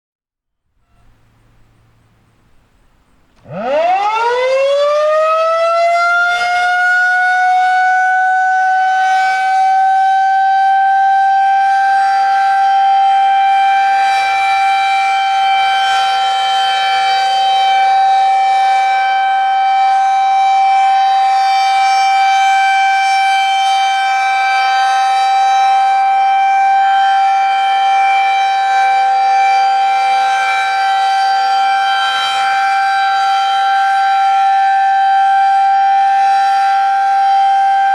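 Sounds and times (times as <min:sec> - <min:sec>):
outdoor warning siren steady tone: 0:00.6 - 0:37.9.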